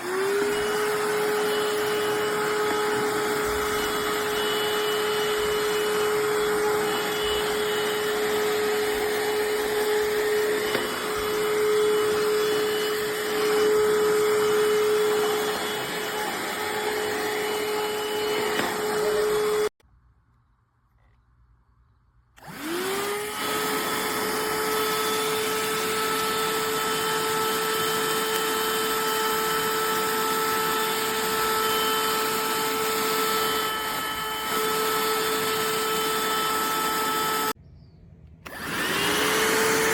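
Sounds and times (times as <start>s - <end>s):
handheld vacuum motor whine: 0.0s - 19.8s, 22.4s - 37.6s, 38.4s - 39.9s.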